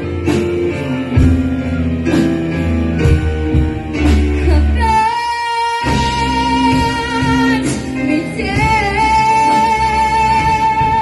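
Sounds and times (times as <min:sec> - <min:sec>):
pop ballad backing music: 0:00.0 - 0:11.0.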